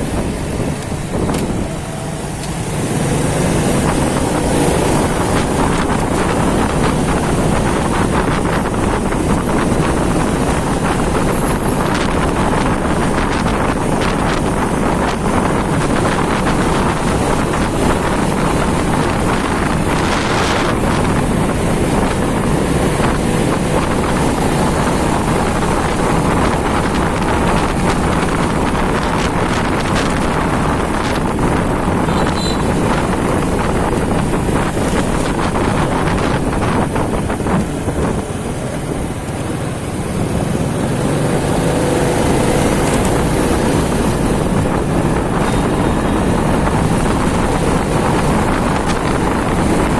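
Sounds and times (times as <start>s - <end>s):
motorcycle engine and road noise: 0.0s - 49.9s
wind rushing over microphone: 0.0s - 49.9s.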